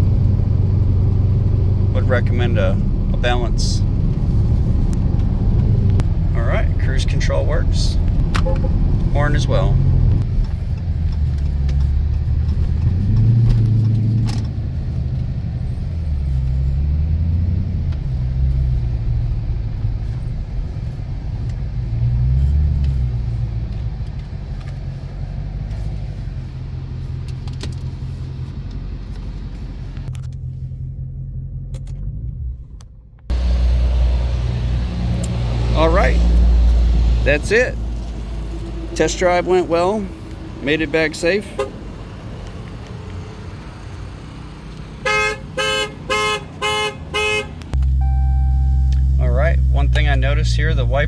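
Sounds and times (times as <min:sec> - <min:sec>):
car engine rumbling while driving: 0:00.0 - 0:51.0
road noise: 0:00.0 - 0:51.0.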